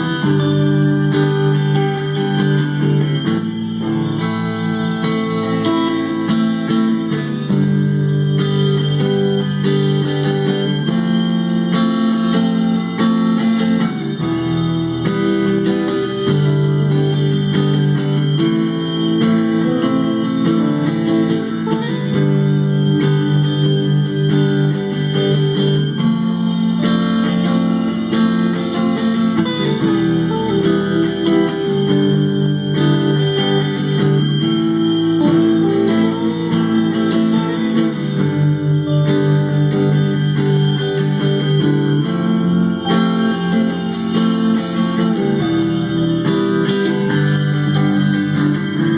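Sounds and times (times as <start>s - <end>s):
guitar plucked notes: 0.0s - 48.9s.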